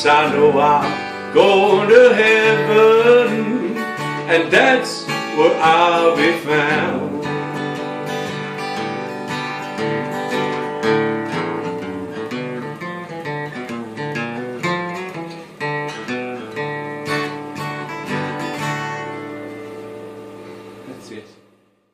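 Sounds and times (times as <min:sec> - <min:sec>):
acoustic guitar strumming: 0:00.0 - 0:21.9.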